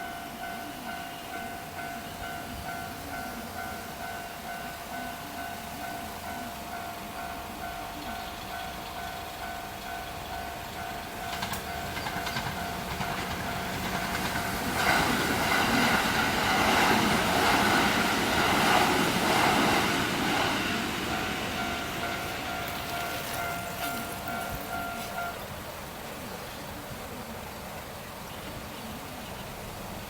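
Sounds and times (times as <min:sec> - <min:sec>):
train wheels clacking on rails: 0:00.0 - 0:25.5
level crossing warning bell: 0:00.0 - 0:26.5.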